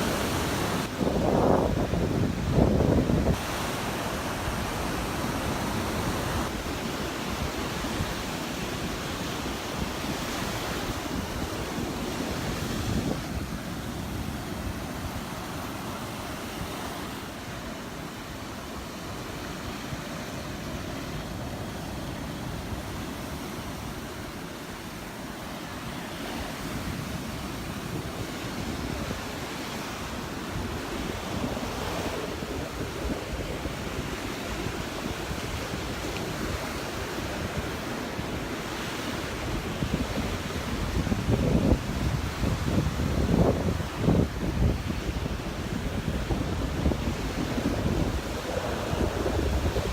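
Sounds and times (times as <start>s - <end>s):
wind buffeting microphone: 0.0s - 25.2s, 25.9s - 49.9s
surf waves breaking on beach: 0.0s - 49.9s.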